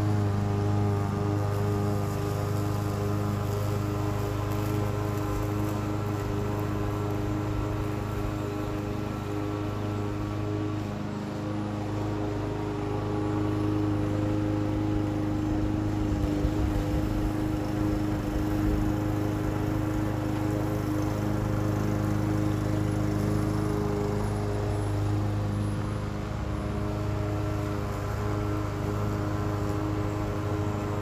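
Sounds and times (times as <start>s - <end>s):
lawn mower running: 0.0s - 31.0s.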